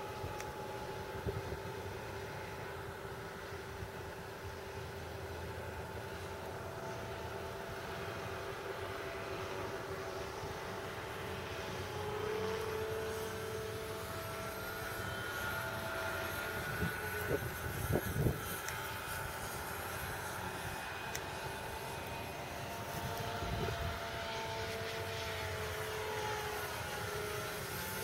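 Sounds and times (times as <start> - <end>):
electric motor and propeller whining: 0.0 - 28.0.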